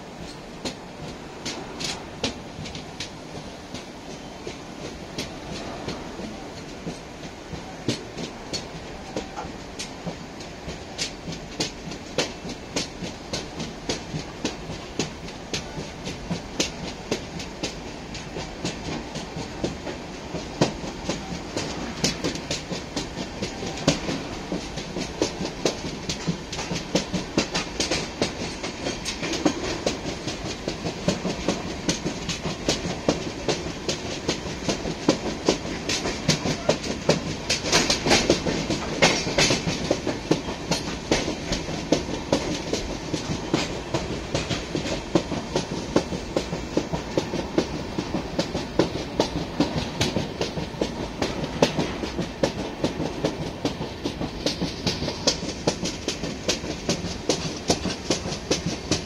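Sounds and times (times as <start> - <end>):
train wheels clattering over rail joints: 0.0 - 59.0.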